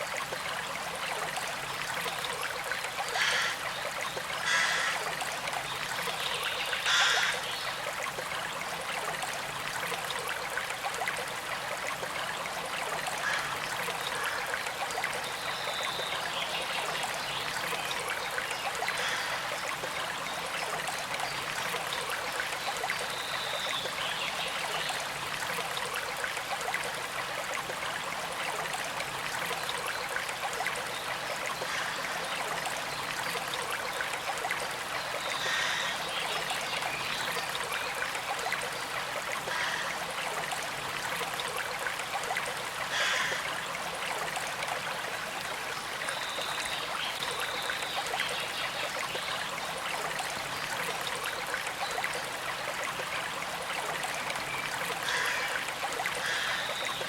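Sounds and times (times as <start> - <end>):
creek trickling: 0.0 - 57.0.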